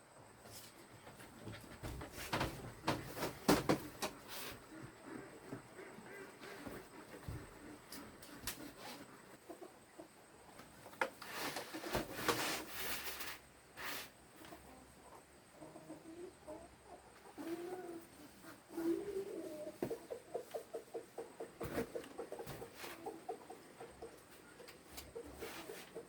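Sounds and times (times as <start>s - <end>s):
chickens clucking: 0.2s - 26.0s.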